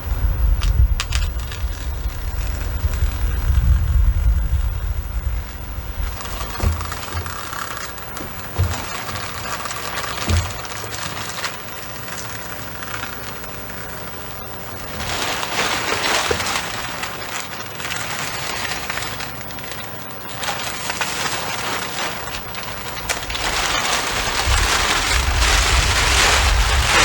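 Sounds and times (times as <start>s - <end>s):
house wrap rustling and crinkling: 0.5s - 27.0s.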